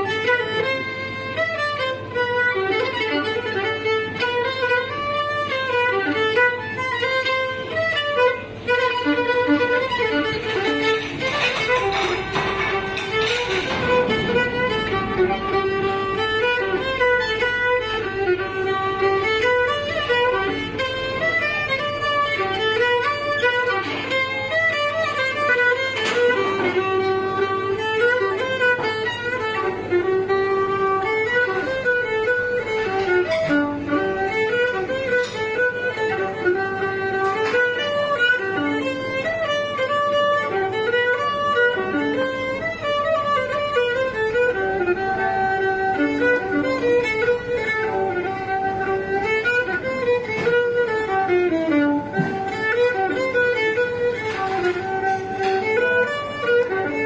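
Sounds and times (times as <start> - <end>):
bowed string solo melody: 0.0 - 57.0.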